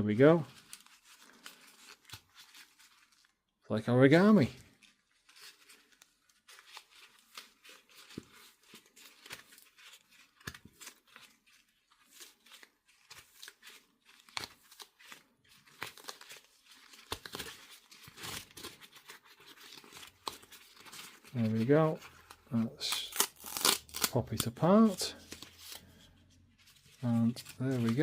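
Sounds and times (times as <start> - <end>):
paper crinkling and crackling: 0.0 - 3.5, 4.3 - 28.0.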